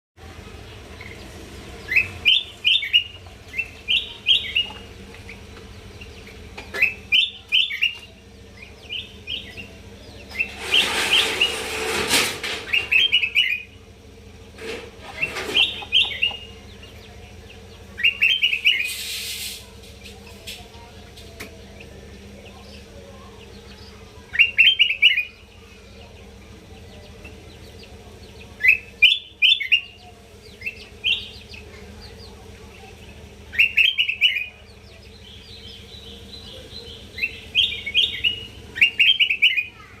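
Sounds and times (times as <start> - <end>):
bird chirping song: 0.2 - 40.0
faint steady hum: 0.2 - 40.0.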